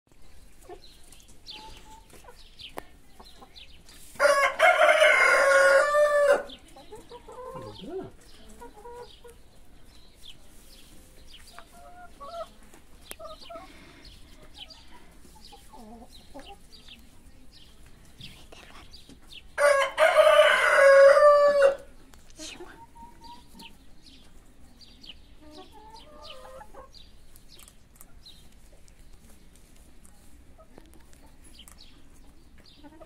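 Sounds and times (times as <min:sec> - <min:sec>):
hens clucking: 0:00.3 - 0:18.3, 0:19.1 - 0:33.0.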